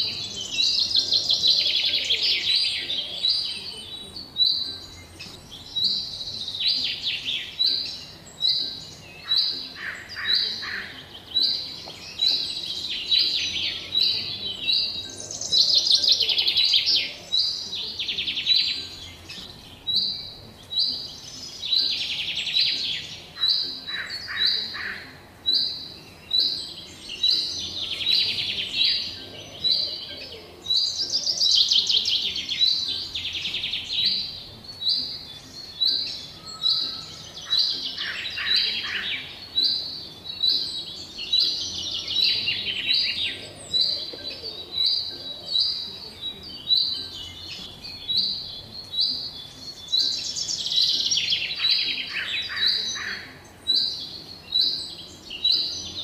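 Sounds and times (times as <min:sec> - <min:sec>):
bird chirping: 0:00.0 - 0:56.0
birds trilling songs: 0:00.0 - 0:56.0.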